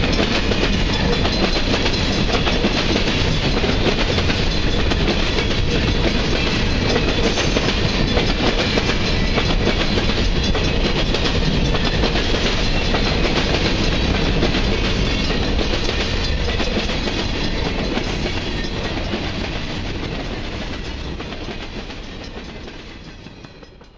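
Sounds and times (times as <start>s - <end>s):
freight train wheels clicking: 0.0s - 23.9s.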